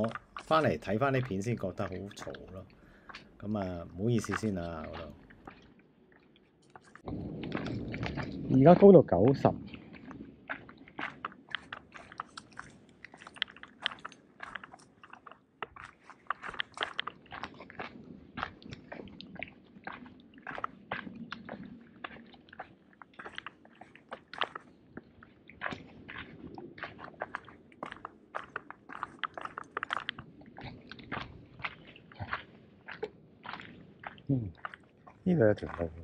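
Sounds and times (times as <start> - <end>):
footsteps crunching on dirt trail: 0.0 - 5.7, 6.7 - 36.0.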